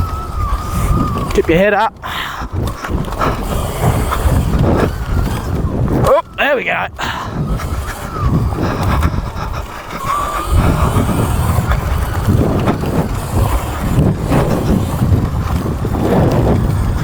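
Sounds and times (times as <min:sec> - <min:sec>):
bike knocking and rattling: 0:00.0 - 0:17.0
faint electric motor whine: 0:00.0 - 0:17.0
wind buffeting microphone: 0:00.0 - 0:17.0.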